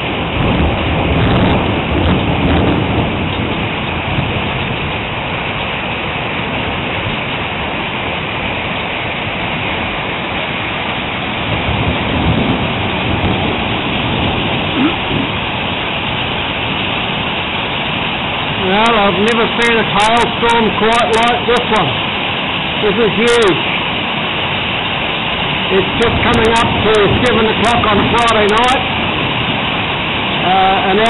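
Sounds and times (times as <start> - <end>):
hail and heavy rain pelting: 0.0 - 31.0.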